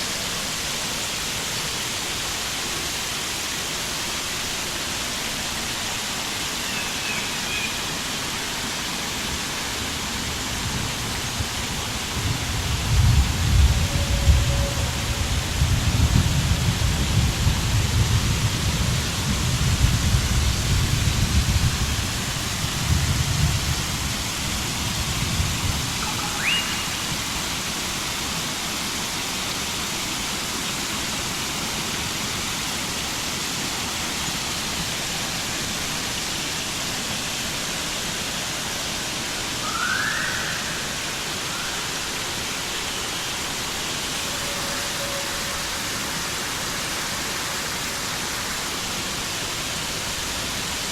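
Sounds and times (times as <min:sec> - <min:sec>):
rushing water hiss: 0:00.0 - 0:50.9.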